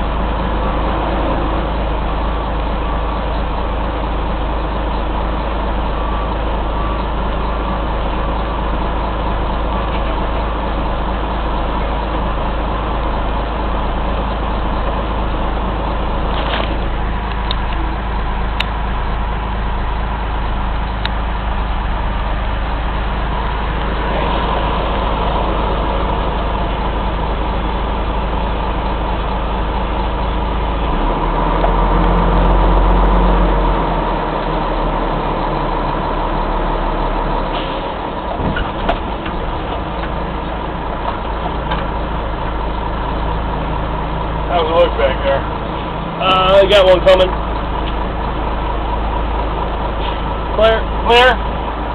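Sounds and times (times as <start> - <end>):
fire engine rumbling: 0.0 - 51.9.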